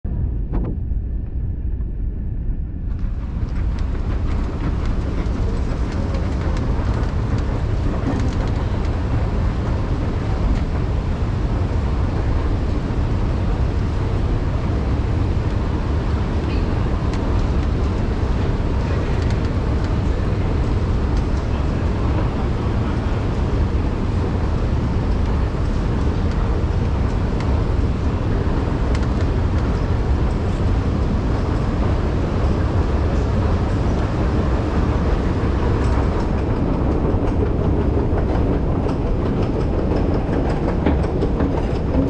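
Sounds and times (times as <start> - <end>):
escalators rumbling: 0.1 - 42.0
station concourse hiss: 3.1 - 42.0.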